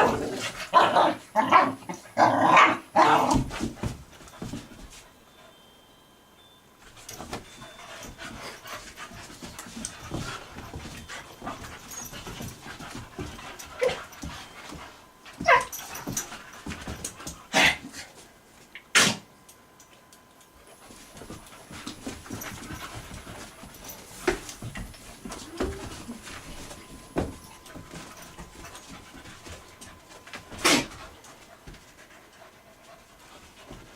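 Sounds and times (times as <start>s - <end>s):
puppies panting and scuffling: 0.0s - 2.2s, 3.0s - 5.6s, 6.8s - 18.7s, 19.7s - 33.9s.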